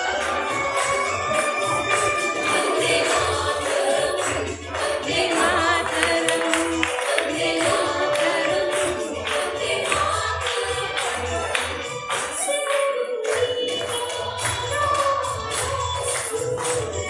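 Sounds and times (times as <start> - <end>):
person singing over dance beat: 0.0 - 17.0.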